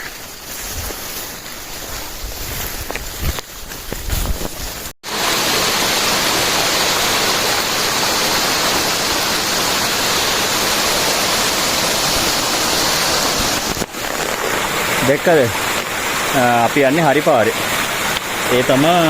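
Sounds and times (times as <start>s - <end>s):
rush of falling water: 0.0s - 19.0s.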